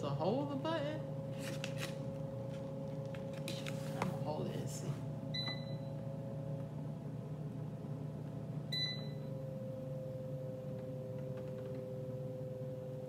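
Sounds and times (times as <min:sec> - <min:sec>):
air fryer humming: 0:00.0 - 0:13.0.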